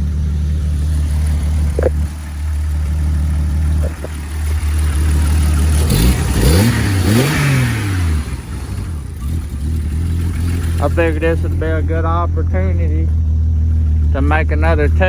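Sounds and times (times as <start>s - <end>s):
car engine idling: 0.0s - 15.0s
second engine revving: 0.0s - 15.0s.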